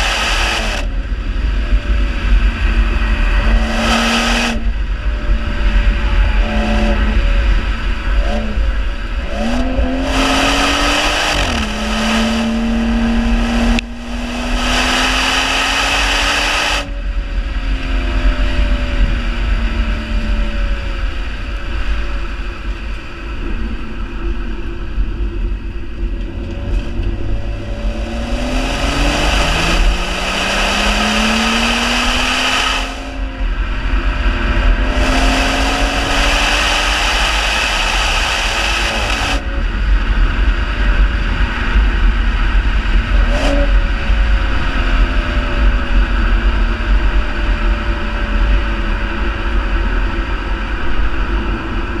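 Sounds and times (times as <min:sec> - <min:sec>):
car engine accelerating hard: 0:00.0 - 0:52.0
wind rushing over microphone: 0:00.0 - 0:52.0.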